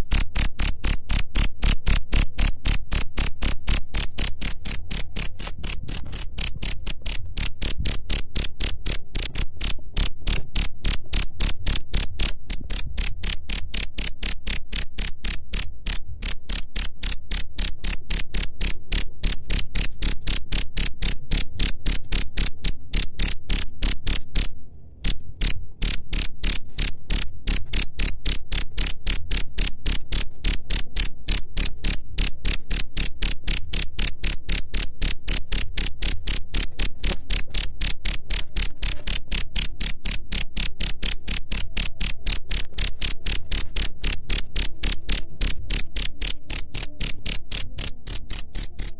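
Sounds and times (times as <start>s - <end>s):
cricket chirping: 0.0s - 48.9s.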